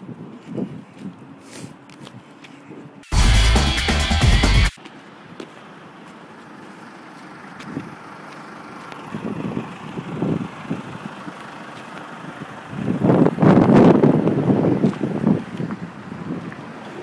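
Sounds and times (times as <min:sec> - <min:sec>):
traffic: 0:00.0 - 0:17.0.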